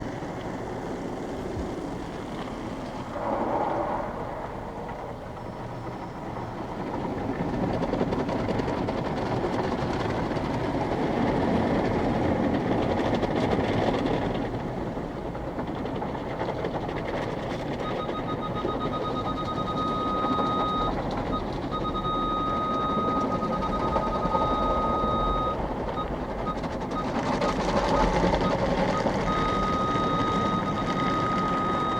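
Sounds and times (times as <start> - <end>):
car wash equipment running: 0.0 - 31.9.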